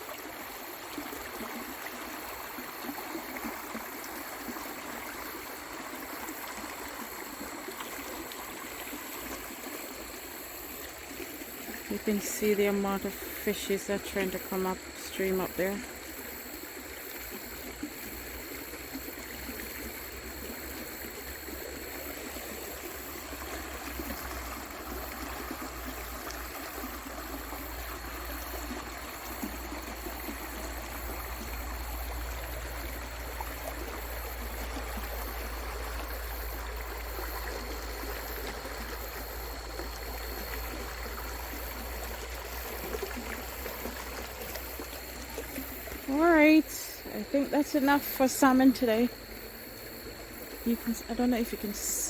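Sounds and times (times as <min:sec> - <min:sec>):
creek water rushing over rocks: 0:00.0 - 0:52.0.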